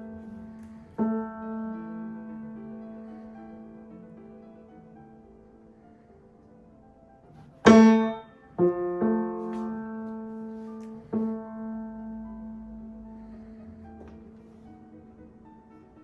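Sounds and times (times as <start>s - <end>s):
piano note ringing: 0.0s - 16.0s.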